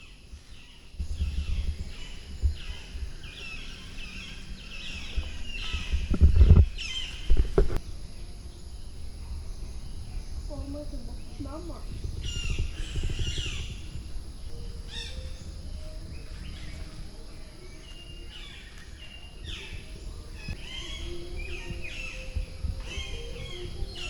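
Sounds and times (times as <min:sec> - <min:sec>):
birds chirping and whistling: 0:00.0 - 0:24.0
steady low rumble: 0:00.0 - 0:24.0.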